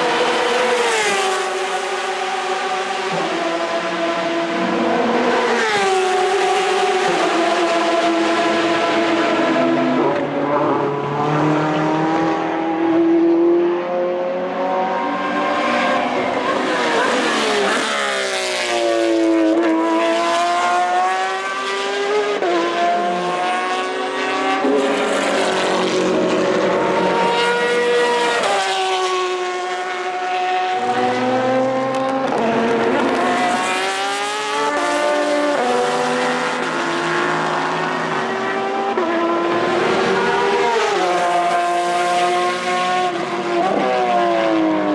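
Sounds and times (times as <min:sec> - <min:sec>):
race car engine at speed: 0:00.0 - 0:44.9.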